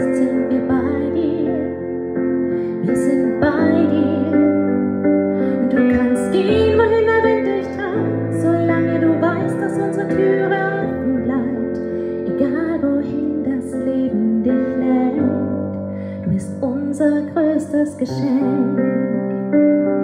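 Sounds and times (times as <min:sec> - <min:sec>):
woman singing a ballad: 0:00.0 - 0:19.6.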